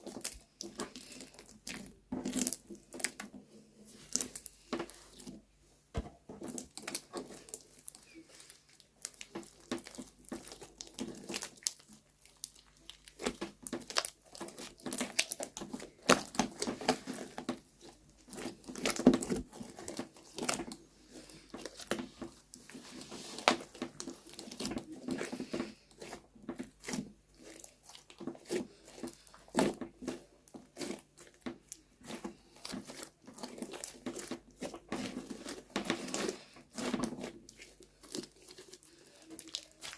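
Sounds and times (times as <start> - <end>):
slime crackling and popping: 6.4 - 39.9.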